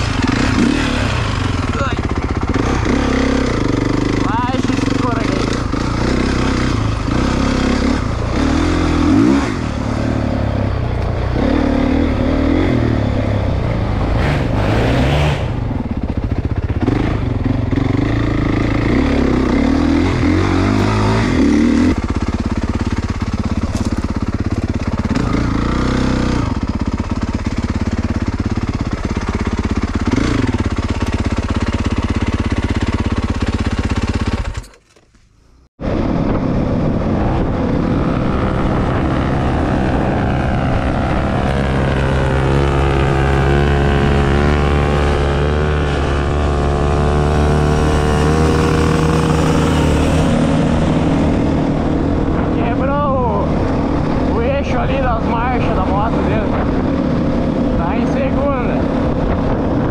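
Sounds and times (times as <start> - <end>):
dirt bike engine revving: 0.0 - 34.7, 35.8 - 59.9.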